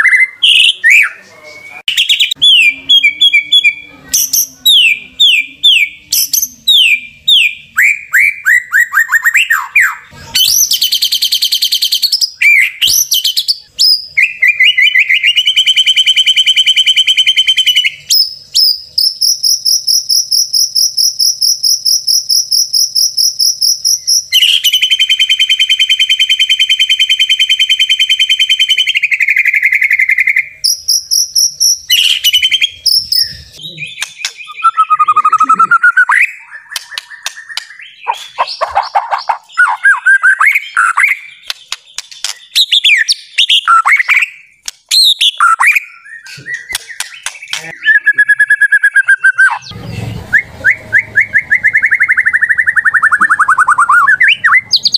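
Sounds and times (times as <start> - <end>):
bird whistles and trills: 0.0 - 54.9.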